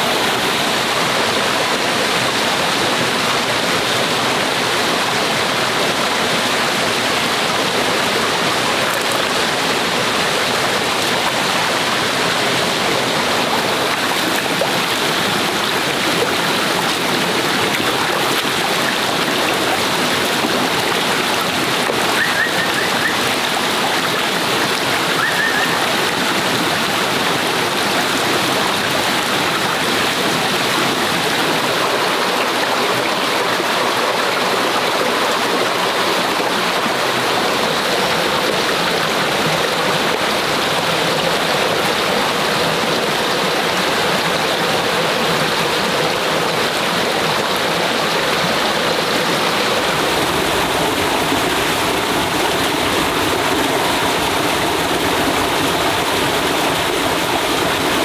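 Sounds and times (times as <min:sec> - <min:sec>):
flowing stream: 0:00.0 - 0:58.0.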